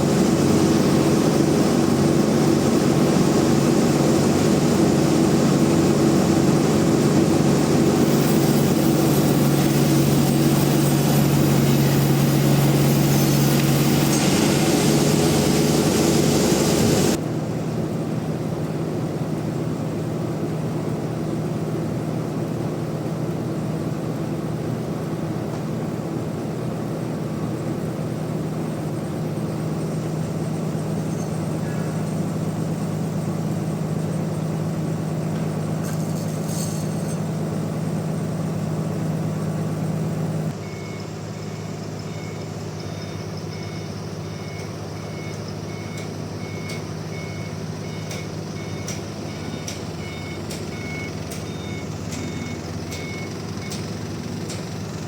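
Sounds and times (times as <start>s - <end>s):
sawmill machinery hum: 0.0s - 55.0s.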